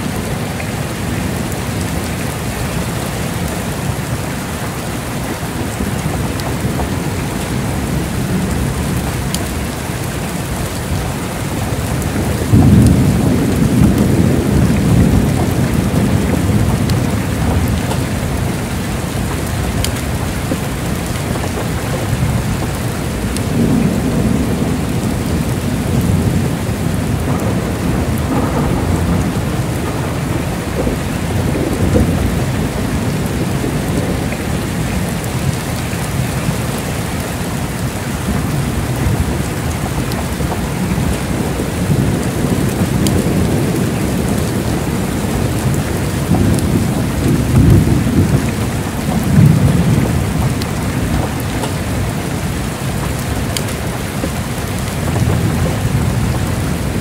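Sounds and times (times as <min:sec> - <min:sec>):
heavy rain pouring: 0:00.0 - 0:57.0
rolling thunder rumble: 0:00.0 - 0:57.0.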